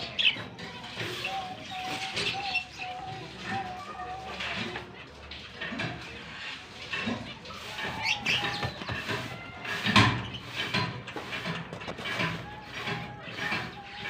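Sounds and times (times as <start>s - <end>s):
lovebirds chattering: 0.0s - 14.0s.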